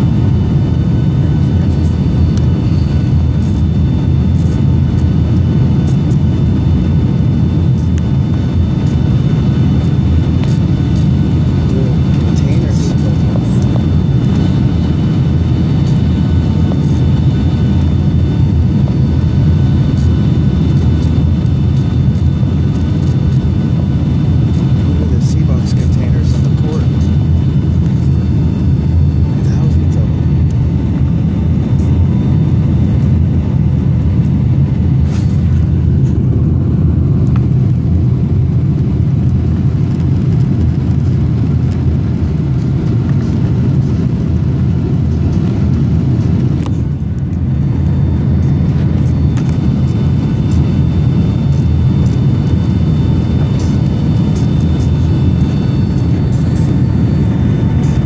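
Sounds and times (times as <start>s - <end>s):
high engine whine: 0.0s - 58.0s
jet engine and airflow roar: 0.0s - 58.0s.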